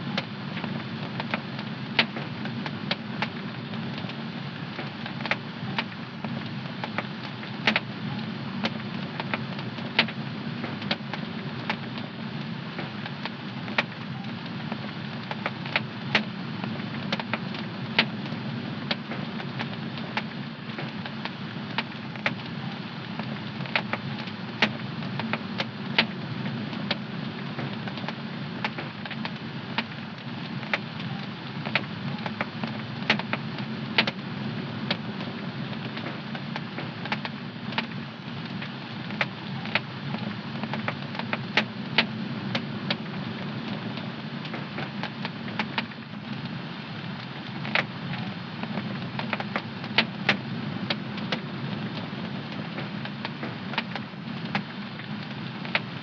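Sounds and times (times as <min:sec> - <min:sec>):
wood fire pops and snaps: 0:00.2 - 0:34.3, 0:34.9 - 0:46.6, 0:47.2 - 0:55.9.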